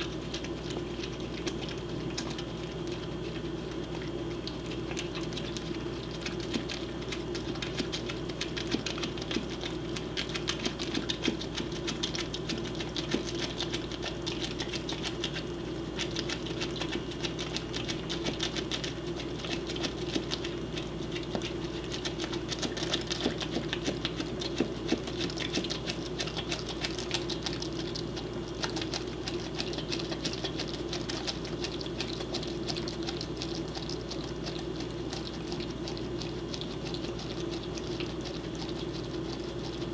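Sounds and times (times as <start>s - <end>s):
steady low hum: 0.0s - 39.9s
teeth clicking on eggshell: 0.0s - 39.9s.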